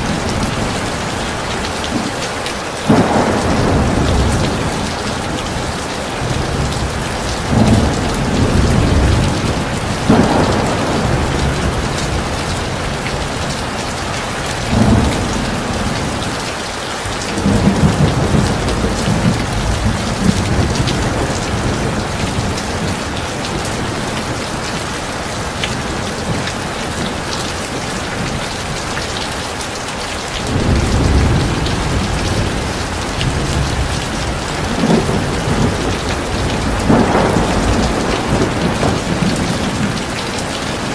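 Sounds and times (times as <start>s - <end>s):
heavy rain falling: 0.0s - 40.9s
low rolls of thunder: 2.9s - 16.4s, 17.0s - 27.1s, 30.4s - 40.9s.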